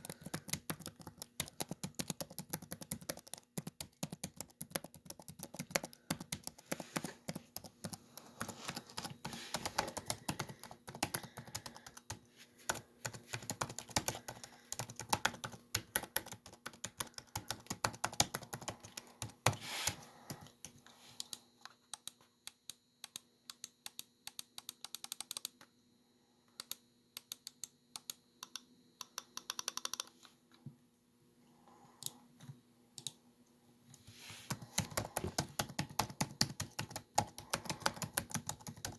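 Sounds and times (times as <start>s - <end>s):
laptop keyboard typing: 0.0s - 21.4s, 22.0s - 25.6s, 26.6s - 30.2s, 34.5s - 38.9s.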